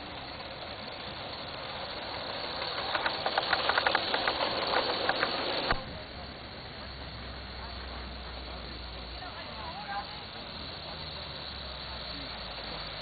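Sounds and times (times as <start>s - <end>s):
model steam locomotive hissing: 0.0s - 13.0s
rapid sharp clicks of train: 0.0s - 13.0s.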